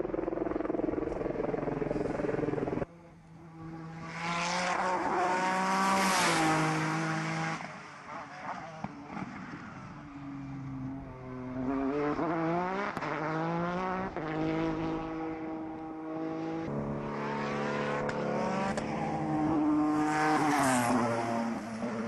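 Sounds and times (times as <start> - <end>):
race car engine at full throttle: 0.0 - 22.0.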